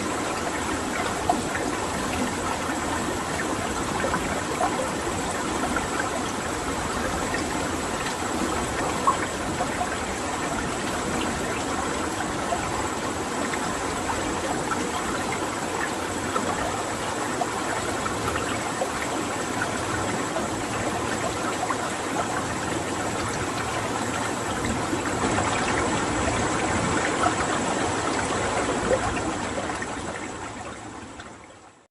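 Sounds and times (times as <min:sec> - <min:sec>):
running water: 0:00.0 - 0:31.9.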